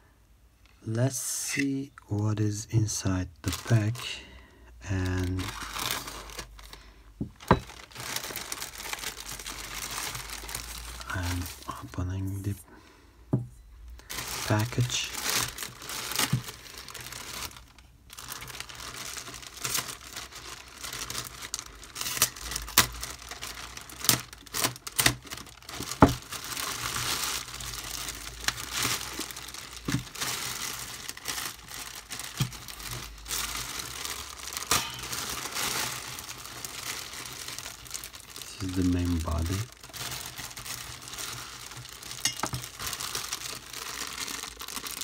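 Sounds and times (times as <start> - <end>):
plastic bags crinkling: 2.5 - 12.7, 13.7 - 45.0.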